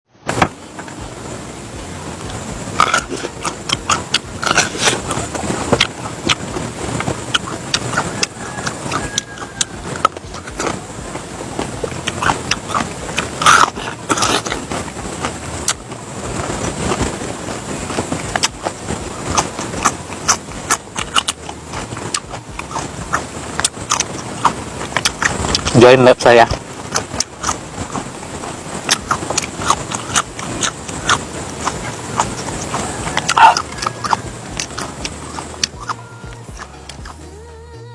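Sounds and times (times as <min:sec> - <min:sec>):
person chewing crisp vegetables: 0:02.2 - 0:25.9, 0:26.5 - 0:37.3.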